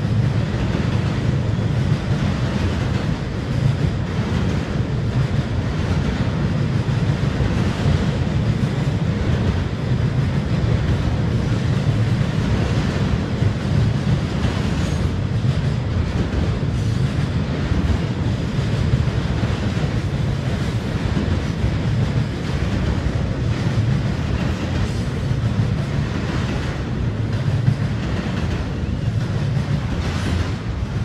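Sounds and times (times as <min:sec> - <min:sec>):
freight train rumbling over bridge: 0:00.0 - 0:31.0.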